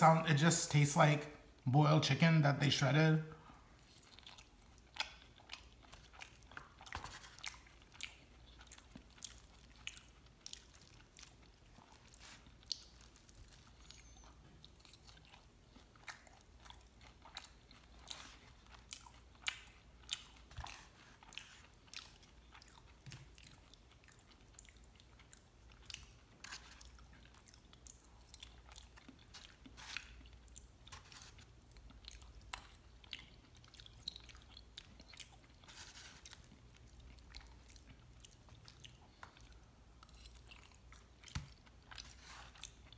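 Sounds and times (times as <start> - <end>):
mouth chewing soggy food: 3.4 - 42.9.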